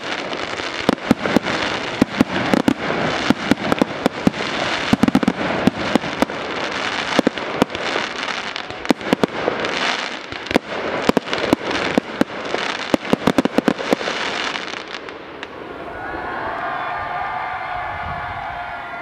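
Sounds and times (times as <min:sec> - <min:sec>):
fireworks hissing: 0:00.0 - 0:15.8
fireworks bangs: 0:00.0 - 0:19.0.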